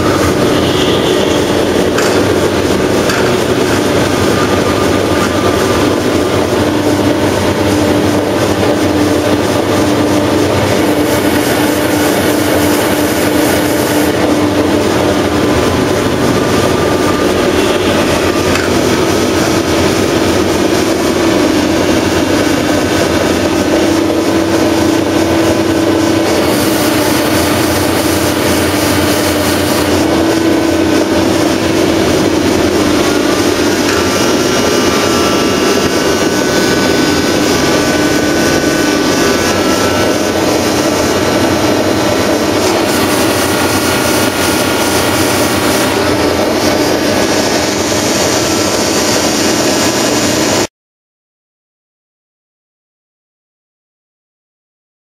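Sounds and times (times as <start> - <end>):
pump test bench mechanical drone: 0.0 - 50.7.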